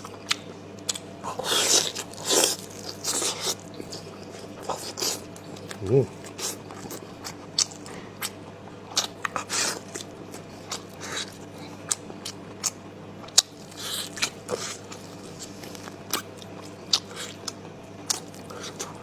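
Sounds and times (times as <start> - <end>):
chewing and biting meat: 0.0 - 19.0.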